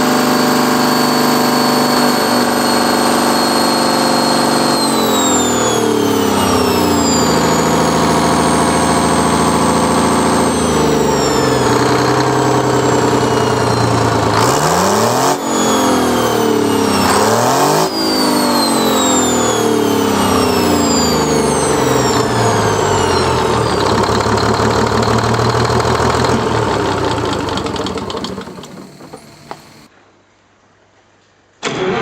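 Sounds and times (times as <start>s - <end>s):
diesel engine running: 0.0s - 29.9s
high engine whine: 0.0s - 29.9s.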